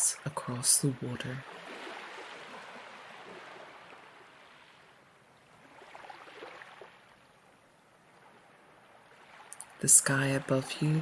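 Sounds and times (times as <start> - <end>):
ocean waves washing on shore: 0.0 - 11.0.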